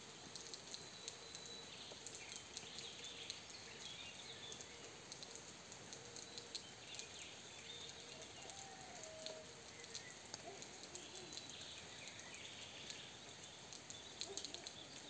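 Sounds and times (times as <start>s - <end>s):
light rain falling: 0.0s - 15.0s
drips ticking: 0.1s - 15.0s
small birds chirping: 0.7s - 15.0s.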